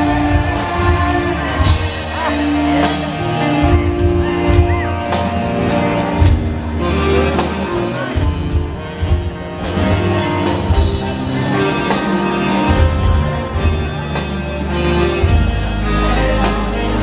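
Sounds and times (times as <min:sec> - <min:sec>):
electric guitars and bass: 0:00.0 - 0:17.0.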